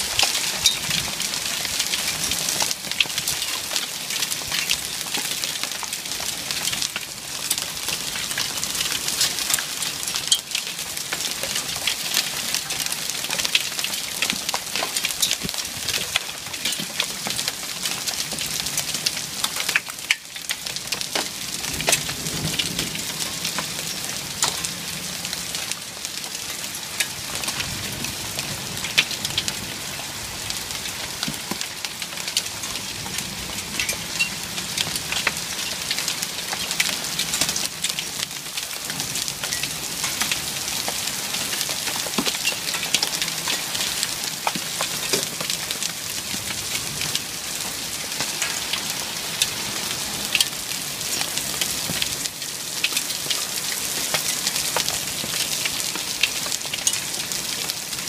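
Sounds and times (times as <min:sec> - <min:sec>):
rain pattering on hard surface: 0:00.0 - 0:58.0.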